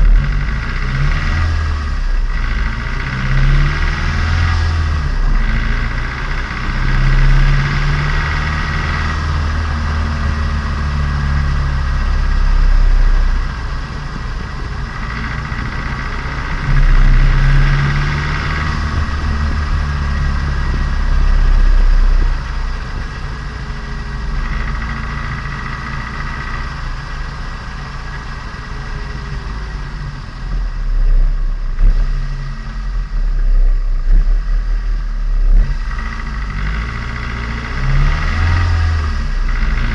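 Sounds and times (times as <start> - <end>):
car engine and exhaust accelerating: 0.0 - 39.9.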